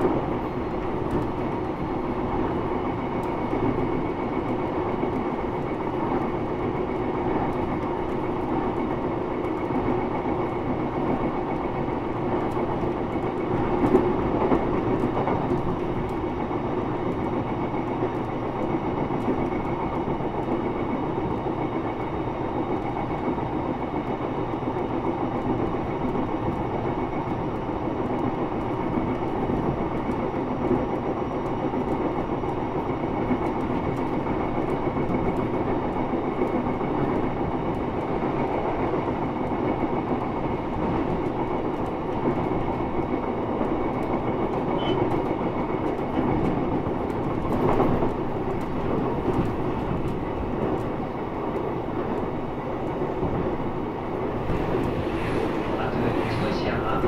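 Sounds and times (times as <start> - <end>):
train wheels on rail: 0.0 - 57.0.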